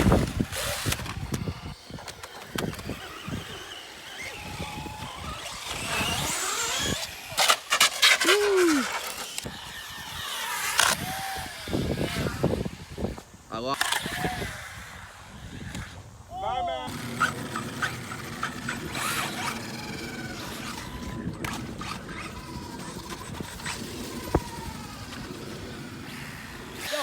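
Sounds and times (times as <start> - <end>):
electric toy car motors whining: 0.0 - 16.1, 16.8 - 27.0.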